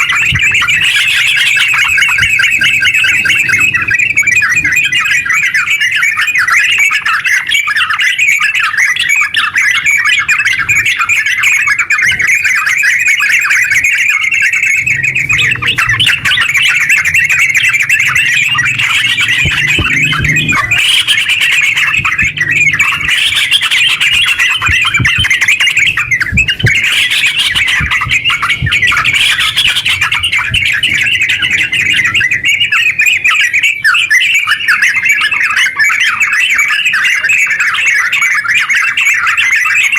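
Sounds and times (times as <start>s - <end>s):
bulbuls singing chattering song: 0.0s - 39.9s.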